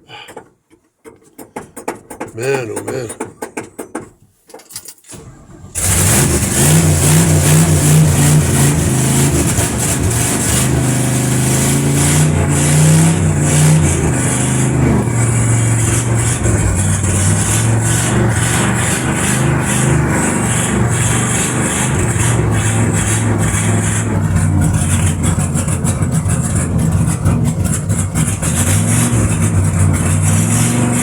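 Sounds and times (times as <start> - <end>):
pickup engine starting and running: 5.0 - 31.0.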